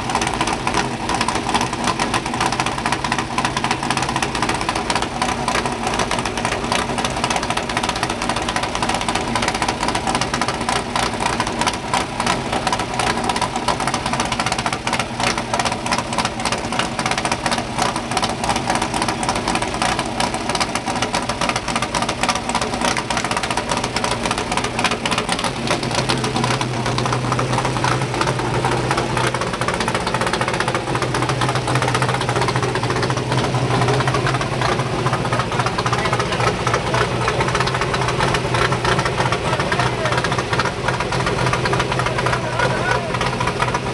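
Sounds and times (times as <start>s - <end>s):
truck engine idling roughly: 0.0s - 43.9s.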